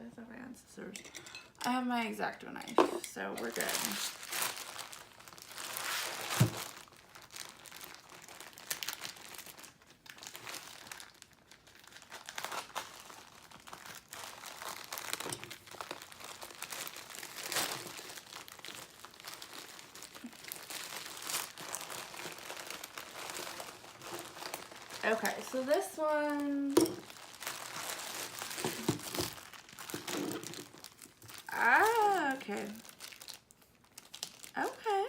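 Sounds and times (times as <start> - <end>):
packaging crinkling and rustling: 3.2 - 34.8
packaging tearing: 3.4 - 34.6.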